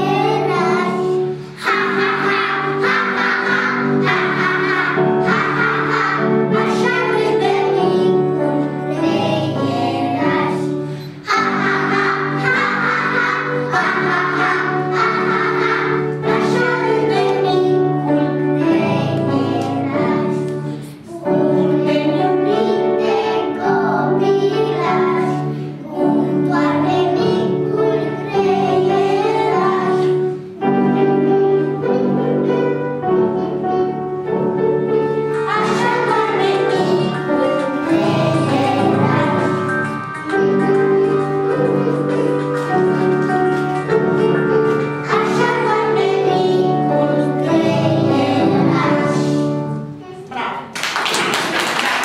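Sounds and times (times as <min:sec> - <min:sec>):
children singing in unison: 0:00.0 - 0:30.8, 0:35.3 - 0:49.8
instrumental accompaniment: 0:00.0 - 0:51.6.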